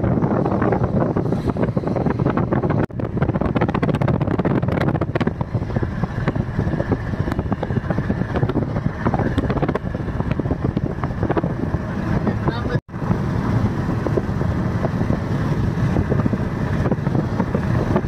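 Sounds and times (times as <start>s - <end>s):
road noise: 0.0s - 18.0s
wind rush: 0.0s - 18.0s.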